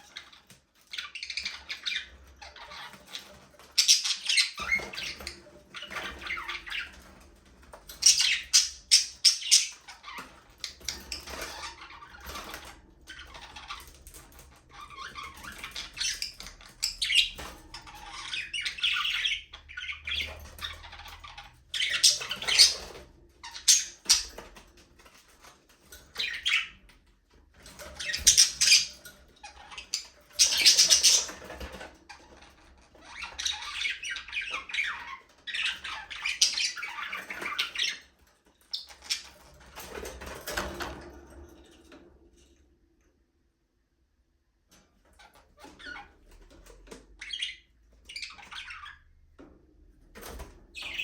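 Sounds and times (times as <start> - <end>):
budgerigars chirping and chattering: 0.0 - 25.5, 26.1 - 26.9, 27.7 - 40.6, 45.2 - 49.1, 50.3 - 51.0.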